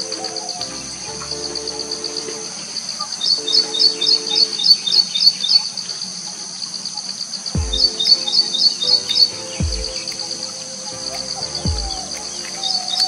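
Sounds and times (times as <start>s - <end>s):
background music with low tones: 0.0s - 5.3s, 7.6s - 13.0s.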